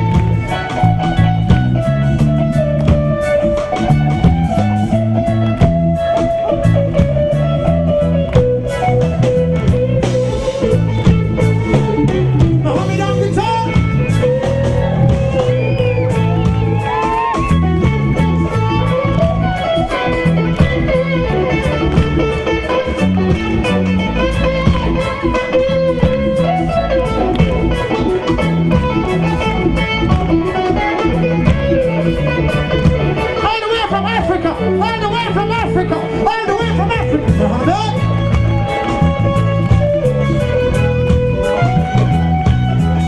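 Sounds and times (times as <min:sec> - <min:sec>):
guitar solo with bent notes: 0:00.0 - 0:43.0
reggae band playing: 0:00.0 - 0:43.0.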